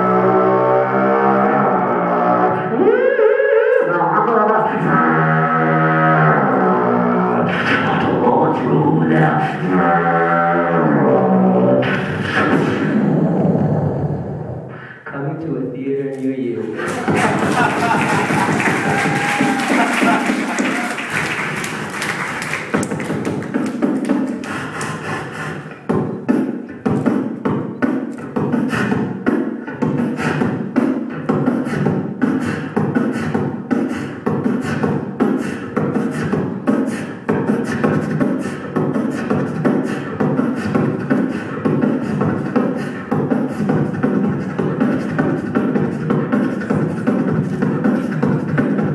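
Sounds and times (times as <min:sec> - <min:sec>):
person beatboxing into microphone: 0:00.0 - 0:48.9.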